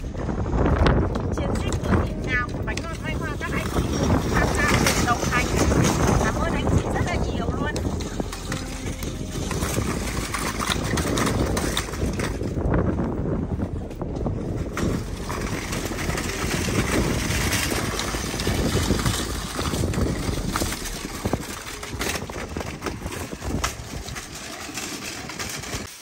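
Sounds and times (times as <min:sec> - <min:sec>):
cart wheels rumbling on paving: 0:00.0 - 0:26.0
wire baskets rattling: 0:01.9 - 0:12.9, 0:14.5 - 0:26.0.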